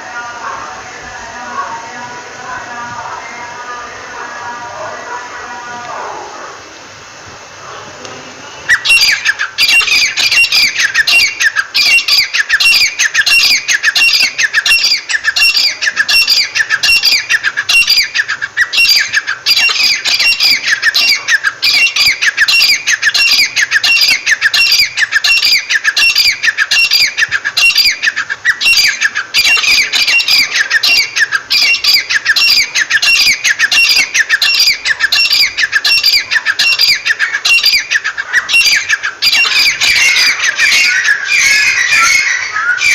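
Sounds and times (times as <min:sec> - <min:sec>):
francolin calling: 0:00.0 - 0:42.9.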